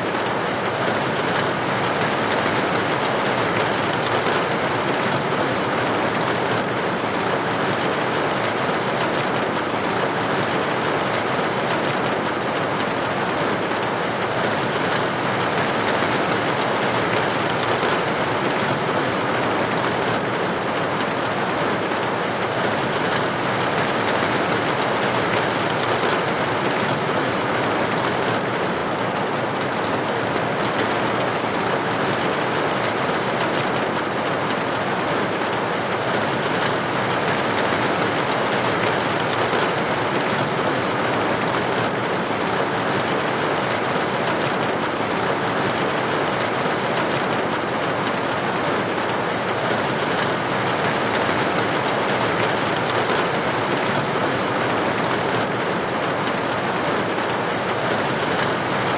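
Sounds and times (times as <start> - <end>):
rain pattering on a window: 0.0 - 58.9.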